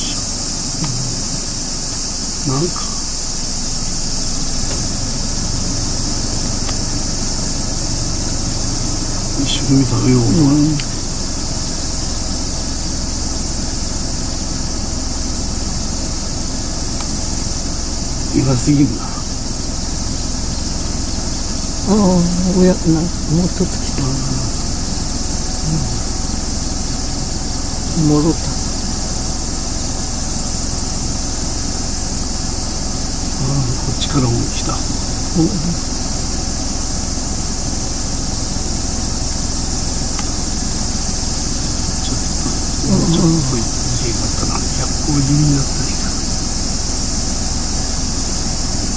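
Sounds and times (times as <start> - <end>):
high-pitched insect chorus: 0.0 - 48.9
low hum: 0.0 - 48.9
low steady rumble: 0.0 - 48.9.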